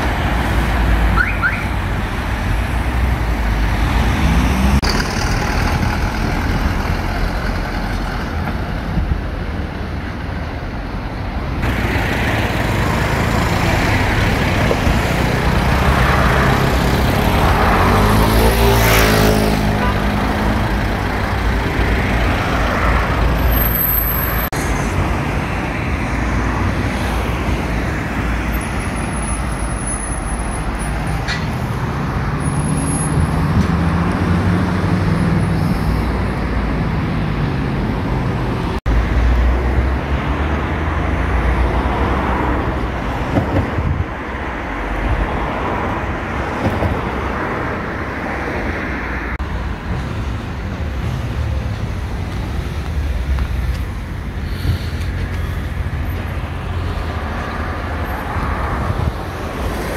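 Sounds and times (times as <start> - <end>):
city street traffic: 0.0 - 59.9.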